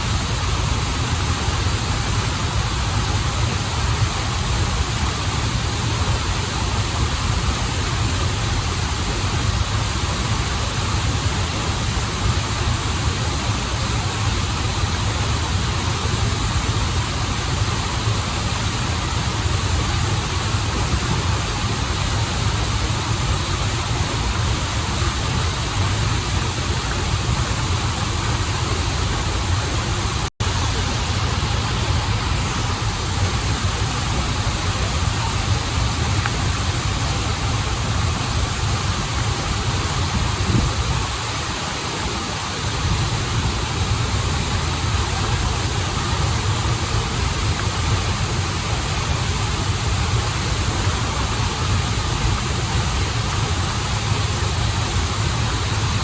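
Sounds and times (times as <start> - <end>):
stream and waterfall rushing: 0.0 - 56.0.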